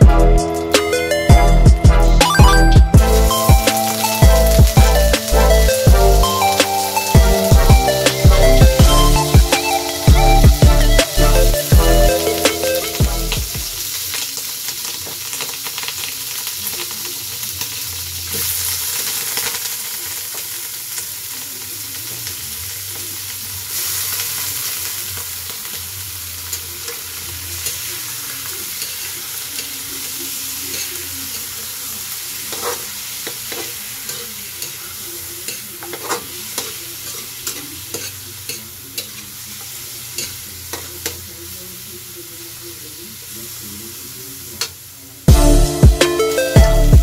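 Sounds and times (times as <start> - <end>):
meat sizzling in a wok: 3.0 - 45.8.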